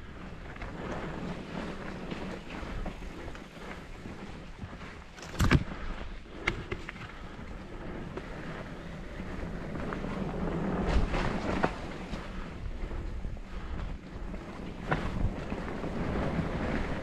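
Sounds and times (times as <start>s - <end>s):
bike rattling over bumps: 0.0s - 17.0s
bike tyres rumbling on dirt trail: 0.0s - 17.0s.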